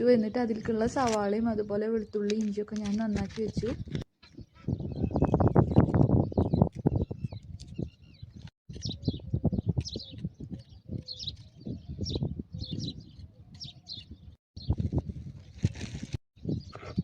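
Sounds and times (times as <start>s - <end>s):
small birds chirping: 0.0s - 15.8s, 16.4s - 17.0s.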